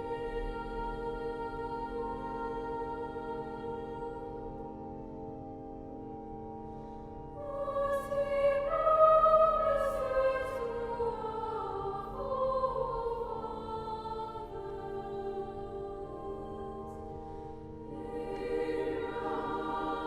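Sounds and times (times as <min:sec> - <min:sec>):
choir singing: 0:00.0 - 0:04.6, 0:07.4 - 0:20.0.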